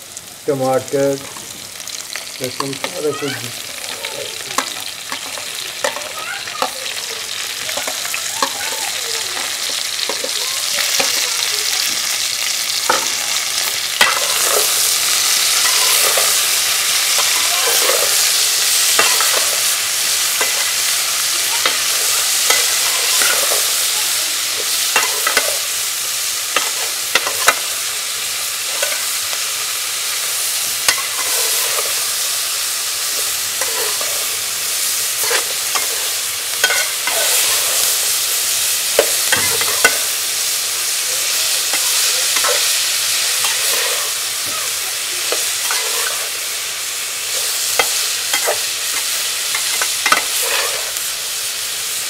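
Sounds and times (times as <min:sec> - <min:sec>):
vegetables sizzling in a pan: 0:00.0 - 0:52.0.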